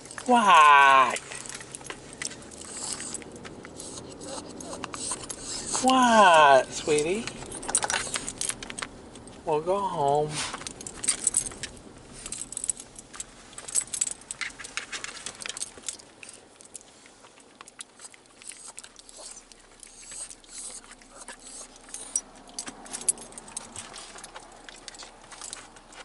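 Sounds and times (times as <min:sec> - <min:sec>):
dog collar tags jangling: 0:00.0 - 0:09.4, 0:10.5 - 0:16.9, 0:17.5 - 0:26.0.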